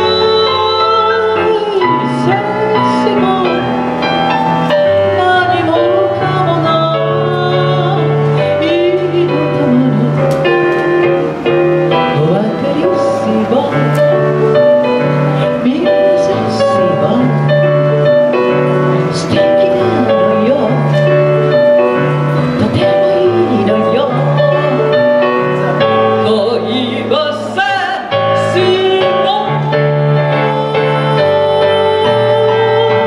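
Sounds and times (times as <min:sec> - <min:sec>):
instrumental accompaniment with bass: 0:00.0 - 0:33.0
woman singing into microphone: 0:00.0 - 0:33.0.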